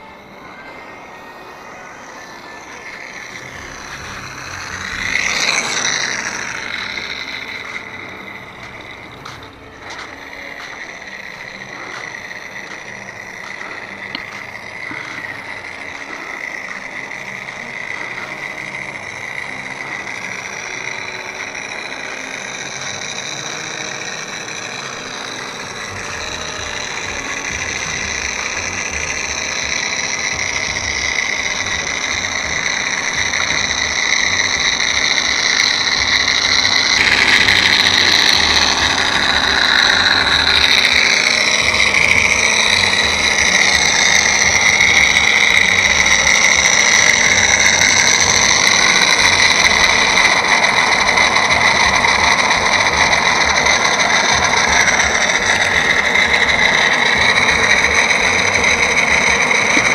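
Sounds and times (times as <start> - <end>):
simulated radial engine idling: 0.0 - 59.9.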